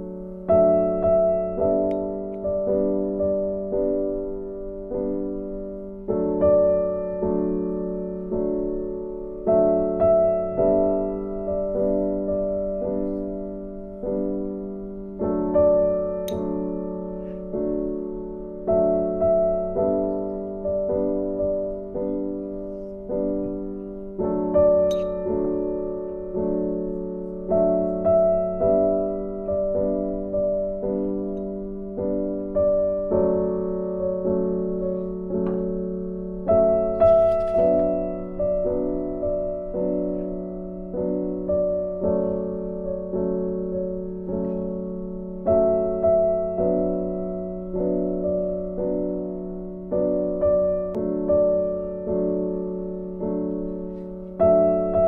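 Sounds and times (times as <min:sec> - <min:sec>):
slow gentle piano melody: 0:00.0 - 0:55.0.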